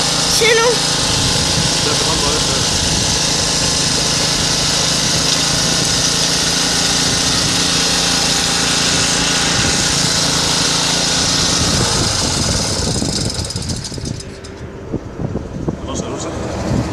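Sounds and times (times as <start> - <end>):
small generator engine running: 0.0 - 16.9.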